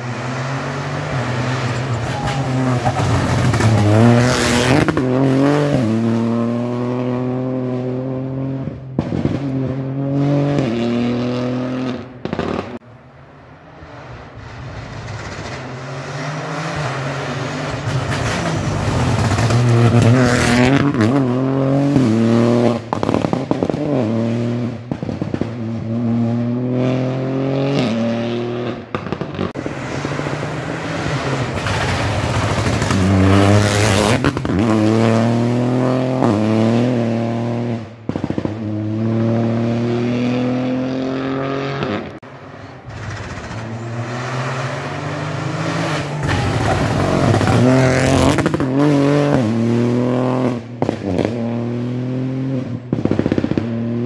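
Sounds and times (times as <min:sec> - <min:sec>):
rally car engine revving: 0:00.0 - 0:12.8, 0:13.9 - 0:54.0.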